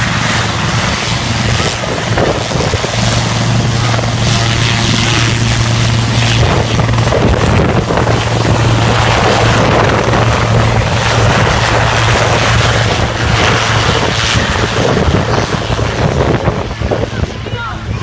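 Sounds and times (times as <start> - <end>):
helicopter low hum: 0.0 - 18.0
rotor wash buffeting microphone: 0.0 - 18.0.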